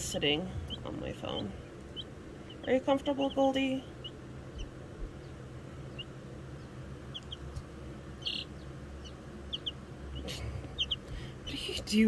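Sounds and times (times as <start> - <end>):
chicks peeping: 0.0 - 12.0
low steady hum: 0.0 - 12.0.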